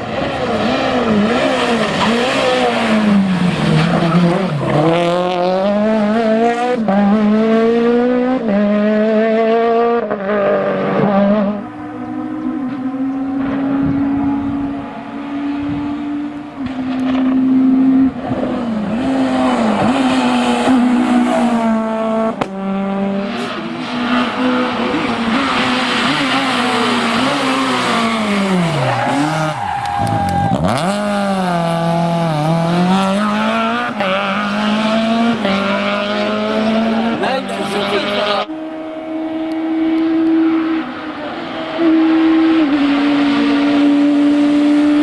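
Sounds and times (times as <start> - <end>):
car passing by: 0.0 - 45.0
rally car engine revving hard: 0.0 - 45.0.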